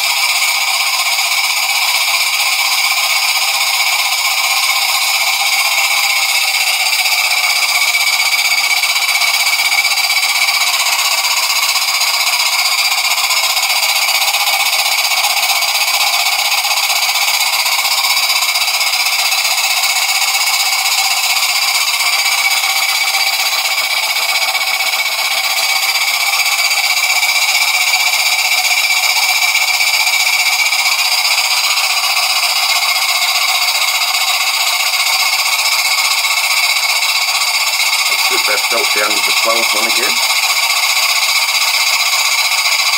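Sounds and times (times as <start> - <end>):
toy steam engine hissing: 0.0 - 42.9.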